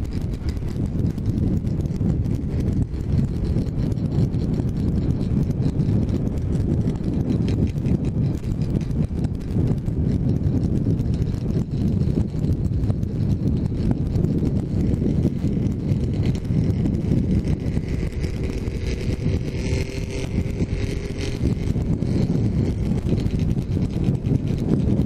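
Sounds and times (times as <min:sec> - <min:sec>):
wind buffeting on helmet: 0:00.0 - 0:25.0.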